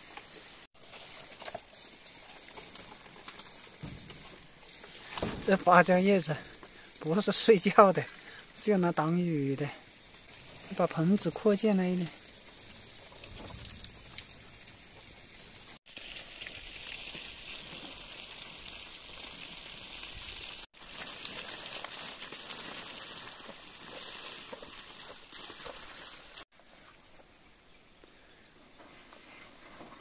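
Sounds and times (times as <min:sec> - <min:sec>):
rain hissing and pattering: 0:00.0 - 0:26.5
leaves rustling and crackling: 0:00.0 - 0:30.0.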